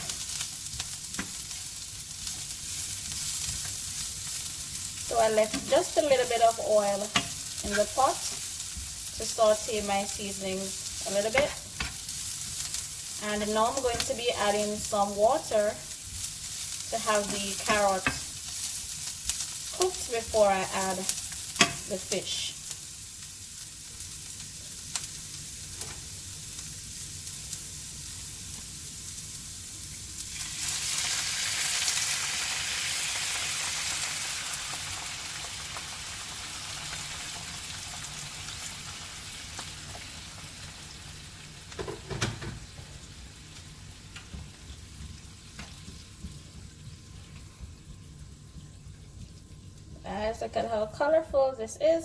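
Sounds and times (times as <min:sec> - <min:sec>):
water hissing in hot oil: 0:00.0 - 0:50.0
vegetables sizzling in oil: 0:00.0 - 0:51.5.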